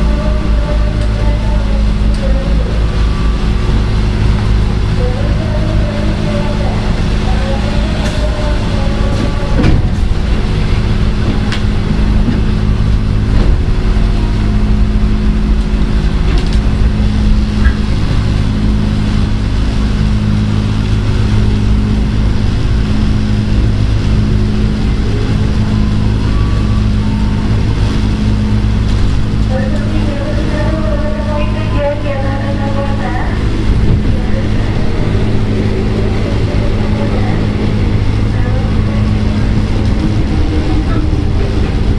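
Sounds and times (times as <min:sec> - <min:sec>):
electric train hum: 0:00.0 - 0:41.9
faint gliding tones: 0:00.0 - 0:41.9
wheel and rail noise: 0:00.0 - 0:41.9.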